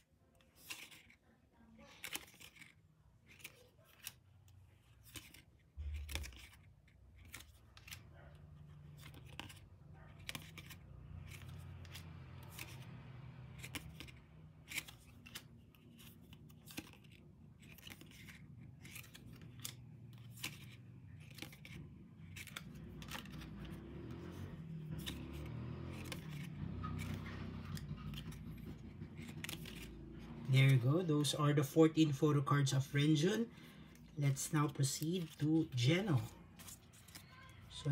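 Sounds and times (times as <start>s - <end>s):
photo cards clicking and tapping: 0.0s - 37.9s.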